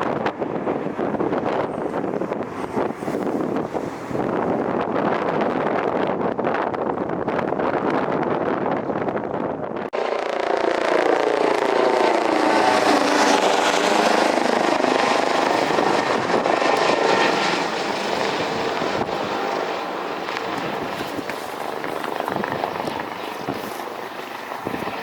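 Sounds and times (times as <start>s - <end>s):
jet airliner engines roaring: 0.0s - 5.5s, 10.0s - 25.0s.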